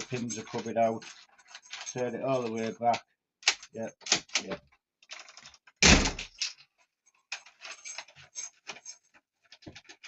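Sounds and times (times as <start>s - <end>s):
lock mechanism clicking and rattling: 0.0s - 10.0s.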